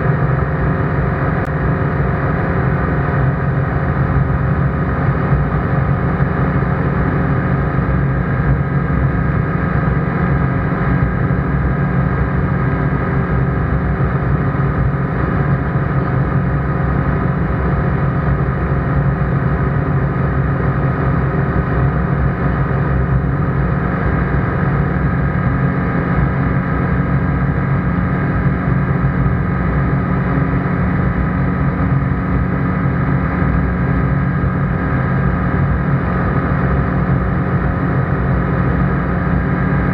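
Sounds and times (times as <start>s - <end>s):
ultralight engine and propeller drone: 0.0s - 39.9s.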